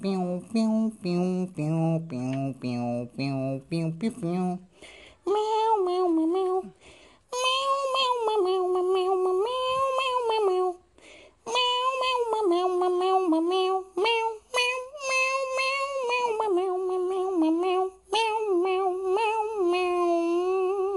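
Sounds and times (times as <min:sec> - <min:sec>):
person humming a melody: 0:00.0 - 0:20.9.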